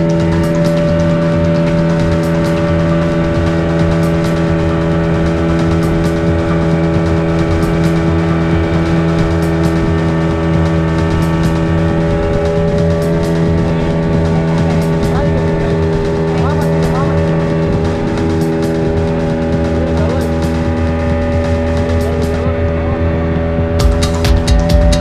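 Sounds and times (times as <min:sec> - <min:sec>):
hull rushing through water: 0:00.0 - 0:25.0
speedboat engine droning: 0:00.0 - 0:25.0.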